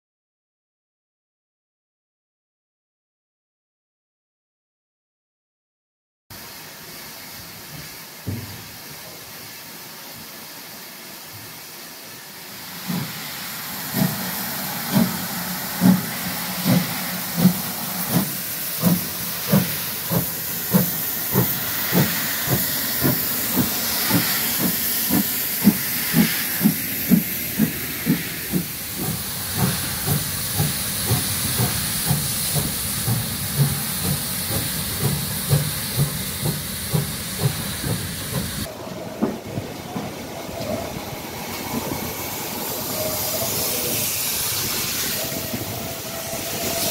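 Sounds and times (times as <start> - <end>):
steam hissing: 6.4 - 46.9
steam locomotive exhaust chuffs: 7.0 - 39.6, 40.5 - 46.9.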